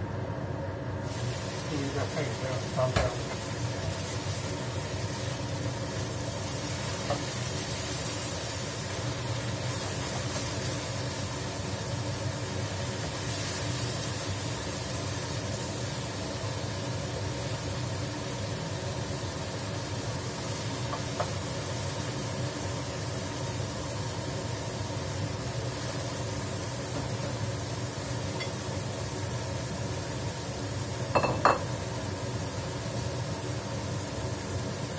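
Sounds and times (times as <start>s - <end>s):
steady hum and hiss: 0.0s - 34.9s
tofu frying in oil: 0.2s - 34.9s.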